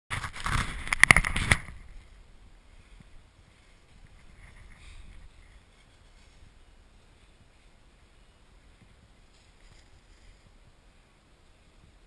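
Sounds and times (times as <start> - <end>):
faint wind hiss: 0.2 - 12.0.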